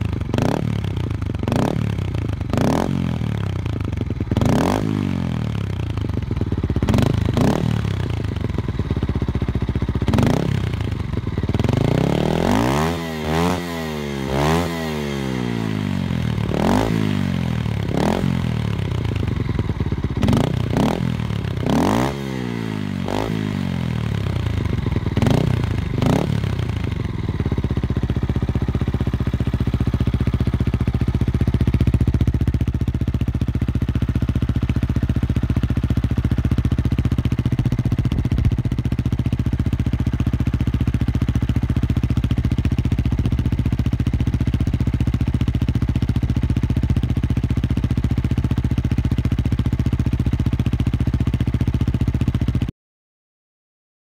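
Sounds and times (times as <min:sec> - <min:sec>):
motorcycle engine revving: 0:00.0 - 0:52.7.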